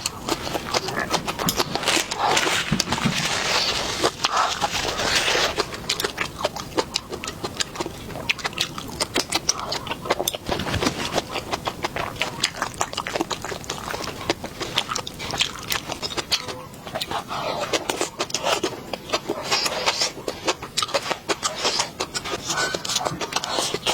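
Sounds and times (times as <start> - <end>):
person chewing and lip smacking: 4.0 - 23.9.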